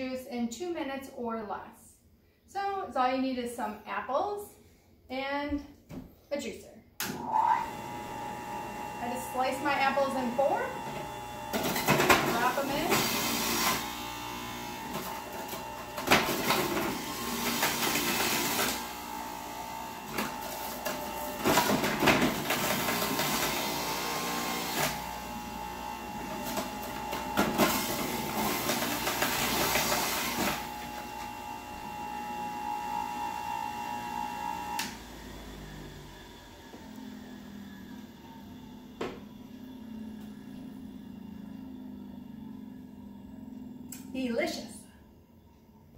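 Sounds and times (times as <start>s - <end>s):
electric juicer whining: 7.0s - 44.6s.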